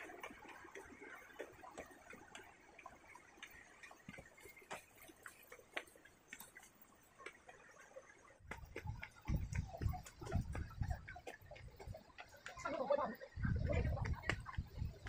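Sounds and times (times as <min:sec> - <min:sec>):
faint footsteps on stone steps: 0:00.0 - 0:15.0.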